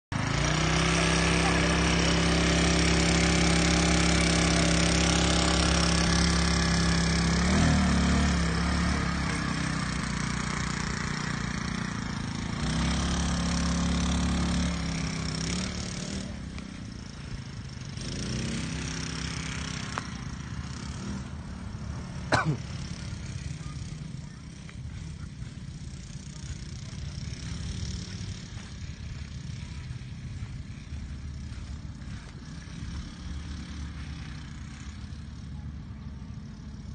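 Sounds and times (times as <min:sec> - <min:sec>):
buggy engine revving: 0:00.1 - 0:36.9
quad bike engine: 0:00.1 - 0:36.9.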